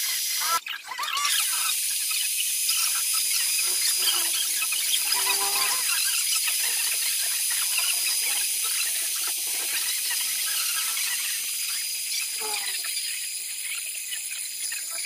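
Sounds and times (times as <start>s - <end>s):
cutting tool squeaks: 0.4s - 13.8s
metal lathe hiss and whine: 1.4s - 15.0s.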